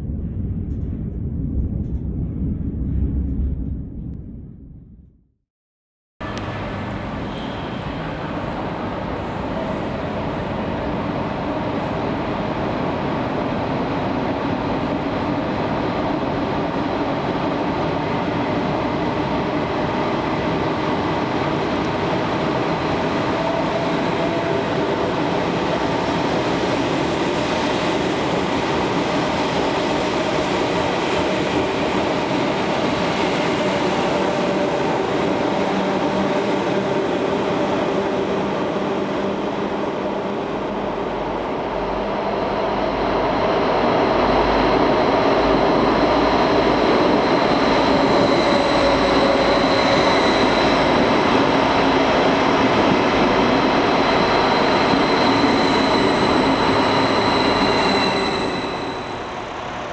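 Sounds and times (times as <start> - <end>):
electric train passing: 6.2 - 59.9.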